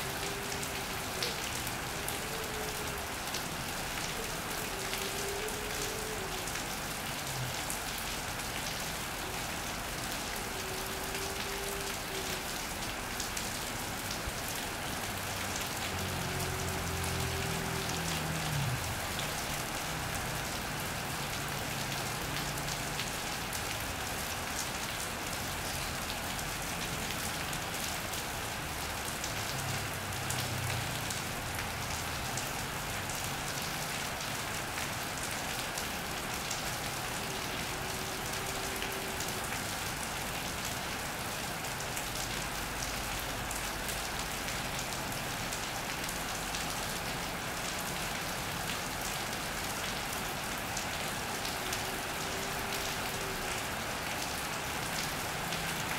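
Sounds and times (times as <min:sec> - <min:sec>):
rain on an iron roof: 0:00.0 - 0:55.9.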